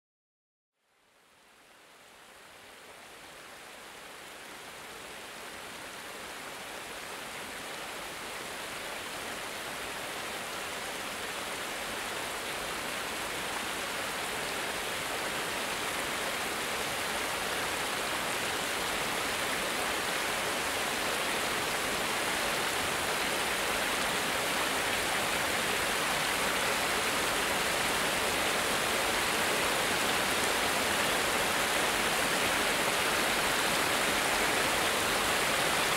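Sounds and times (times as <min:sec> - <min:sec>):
water rushing down a cascade: 0:01.1 - 0:35.9.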